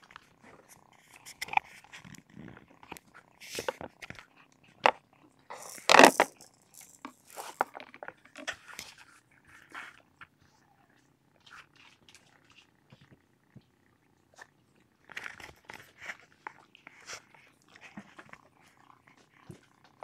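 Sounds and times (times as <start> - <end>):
cat purring: 0.0 - 20.0
small clicks and rustles: 0.0 - 20.0.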